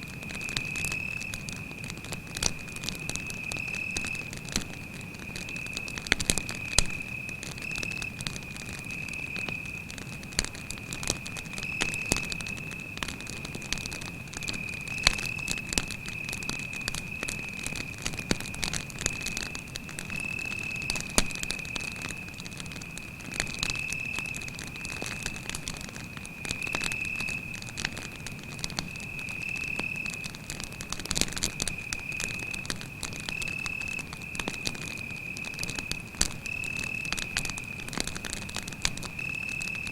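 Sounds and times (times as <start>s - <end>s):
campfire crackling and popping: 0.0s - 39.9s
cricket trilling: 0.3s - 25.7s, 26.3s - 39.9s.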